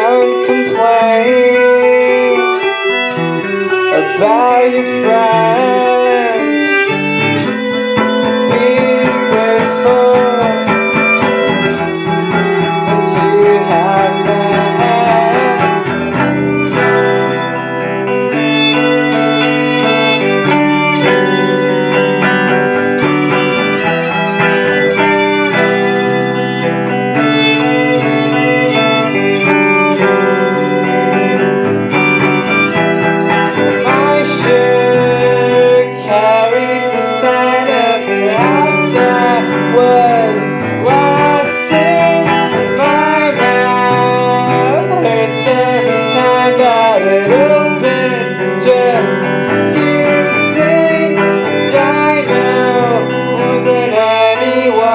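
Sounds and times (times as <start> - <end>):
fiddle: 0.0 - 54.9
guitar: 0.0 - 54.9.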